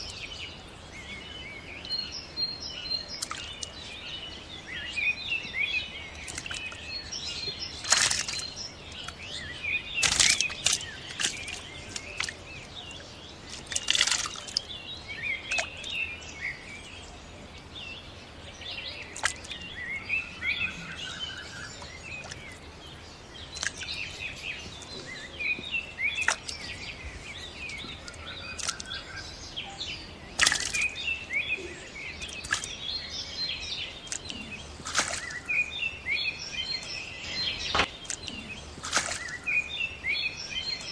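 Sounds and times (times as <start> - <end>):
small birds chirping: 0.0 - 40.9
water splashes: 3.1 - 16.8, 18.6 - 29.5, 30.2 - 40.9.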